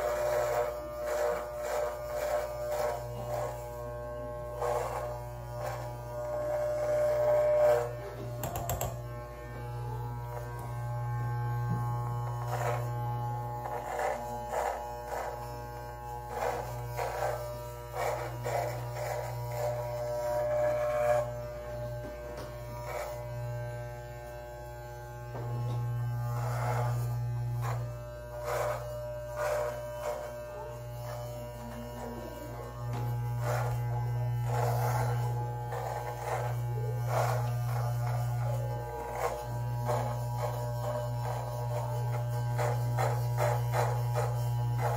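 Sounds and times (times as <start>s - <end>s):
electric beard trimmer buzzing: 0.0s - 44.9s.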